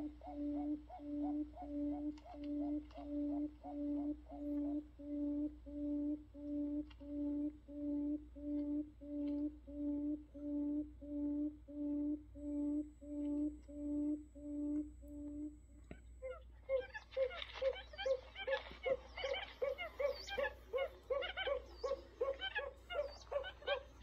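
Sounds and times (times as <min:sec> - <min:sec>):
buttonquail low hooting call: 0:00.0 - 0:24.0.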